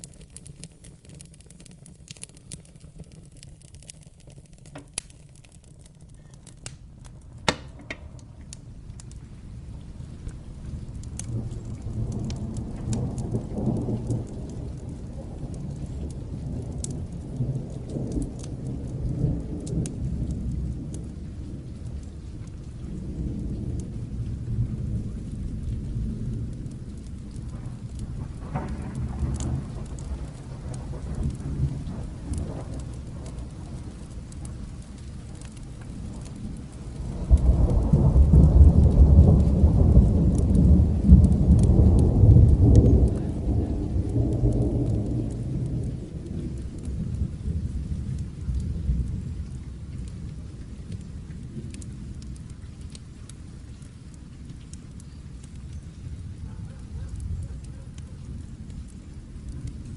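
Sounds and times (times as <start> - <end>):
steady rain falling: 0.0 - 59.9
rolling thunder: 4.9 - 53.2.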